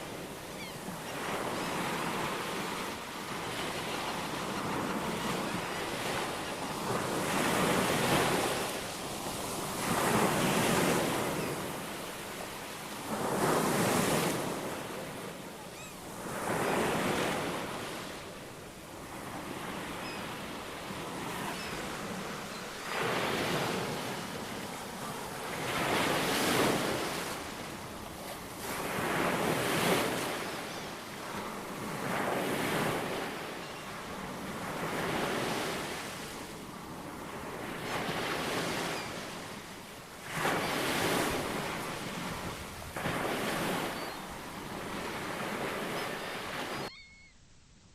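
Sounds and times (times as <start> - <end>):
ocean waves breaking ashore: 0.0 - 47.0.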